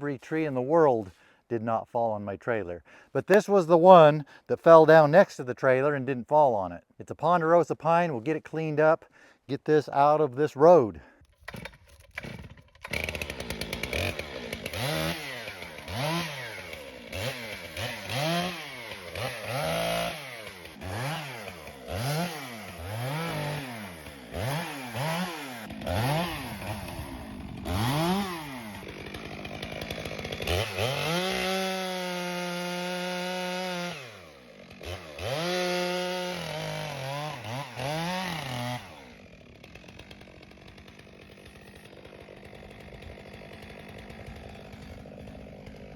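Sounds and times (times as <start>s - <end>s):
chainsaw revving and cutting wood: 7.9s - 45.9s.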